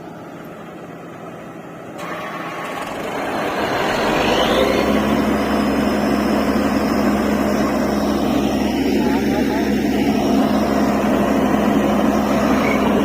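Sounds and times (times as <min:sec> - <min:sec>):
drilling rig engine running: 0:00.0 - 0:13.0.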